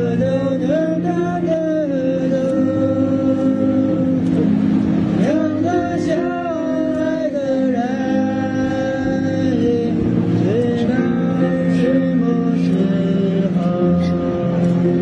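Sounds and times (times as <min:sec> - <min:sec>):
person singing long notes: 0:00.0 - 0:15.0
sustained chords: 0:00.0 - 0:15.0.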